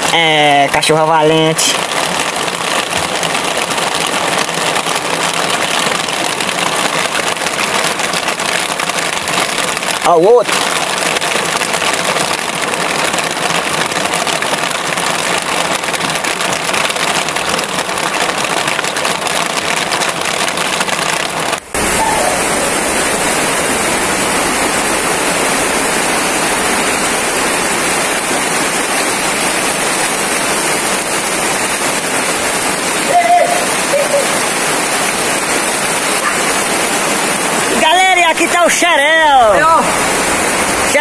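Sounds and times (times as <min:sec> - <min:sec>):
rain on a tent roof: 0:00.0 - 0:41.0.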